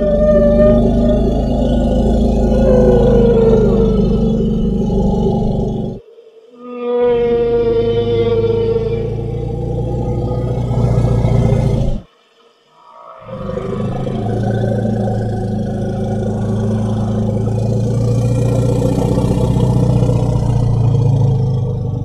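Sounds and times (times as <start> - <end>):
dinosaur growl: 0.0 - 6.0, 7.0 - 12.1, 13.2 - 22.0.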